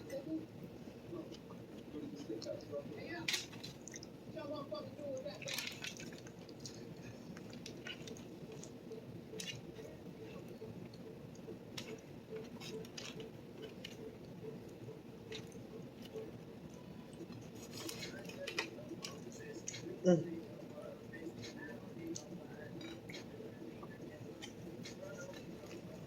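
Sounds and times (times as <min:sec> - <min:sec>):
low steady background hum: 0:00.0 - 0:26.0
soft squishy food sounds: 0:00.0 - 0:26.0.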